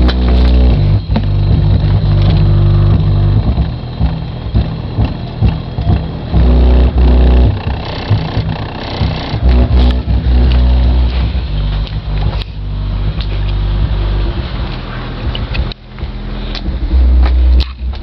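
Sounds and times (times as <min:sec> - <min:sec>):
bass-heavy music from car speakers: 0:00.0 - 0:18.0.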